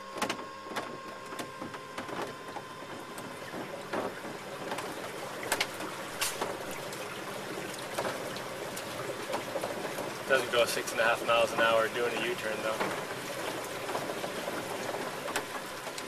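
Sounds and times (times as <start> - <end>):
water splashing against boat hull: 0.1 - 16.0.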